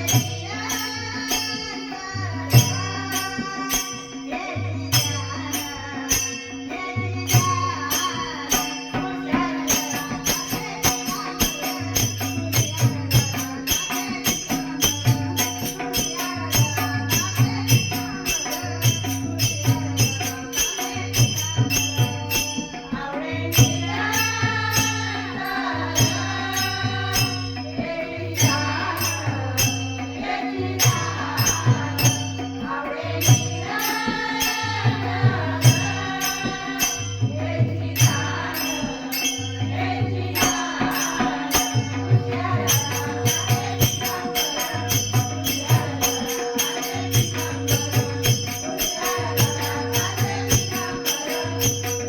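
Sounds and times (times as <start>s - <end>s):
jingling hand percussion: 0.0s - 52.0s.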